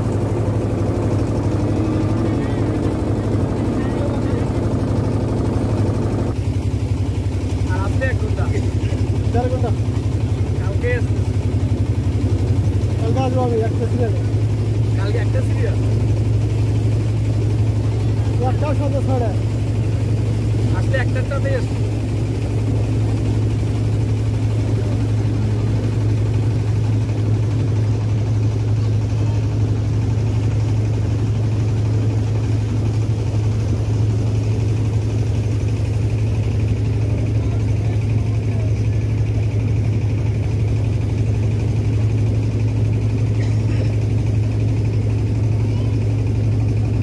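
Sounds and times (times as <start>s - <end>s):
motorboat engine droning: 0.0s - 47.0s.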